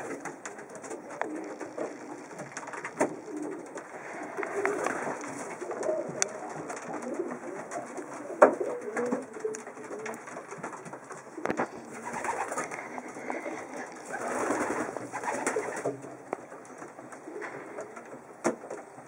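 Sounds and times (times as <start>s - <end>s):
pigeon cooing: 0.0s - 19.0s.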